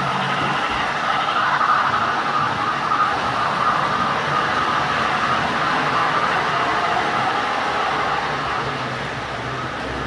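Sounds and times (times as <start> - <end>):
model trains whirring and rattling: 0.0 - 10.0.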